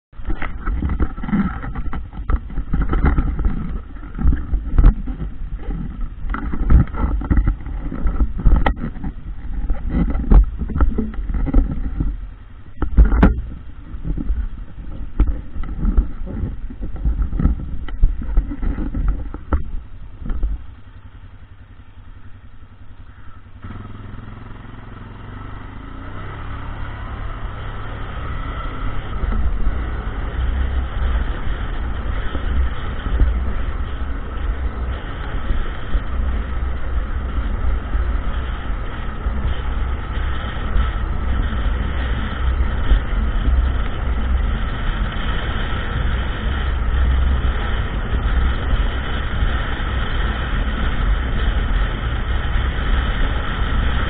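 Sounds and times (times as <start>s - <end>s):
quad engine running: 0.1s - 54.0s.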